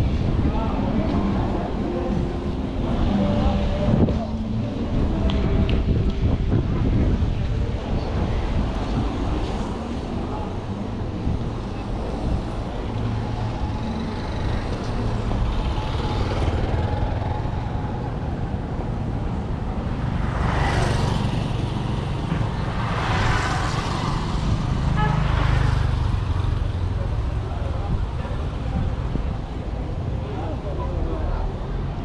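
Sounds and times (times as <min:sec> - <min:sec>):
traffic rumble: 0:00.0 - 0:32.0
vehicles passing close: 0:00.0 - 0:32.0.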